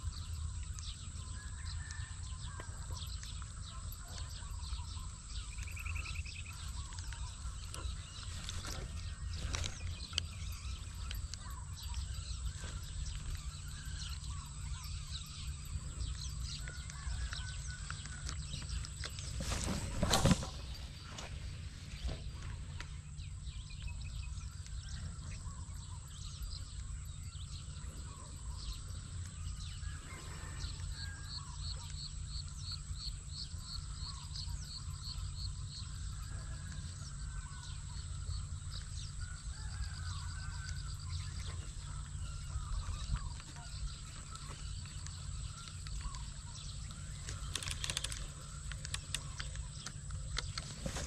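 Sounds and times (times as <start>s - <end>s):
birds chirping and calling: 0.0s - 51.0s
low outdoor rumble: 0.0s - 51.0s.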